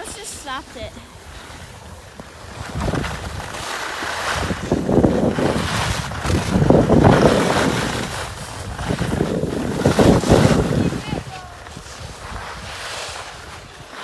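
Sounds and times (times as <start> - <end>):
skis scraping over snow: 0.0 - 14.0
wind rushing over microphone: 0.0 - 14.0.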